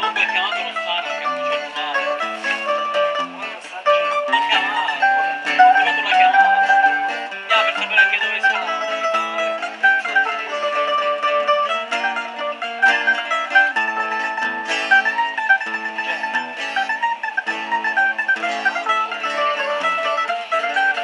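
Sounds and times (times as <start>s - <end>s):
folk music on plucked strings: 0.0s - 21.0s.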